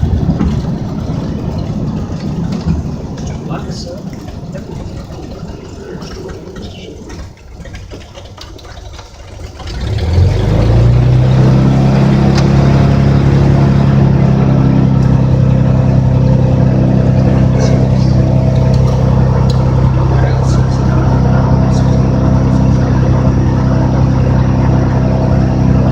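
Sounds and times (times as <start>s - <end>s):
piston aircraft engine and propeller: 0.0s - 25.9s.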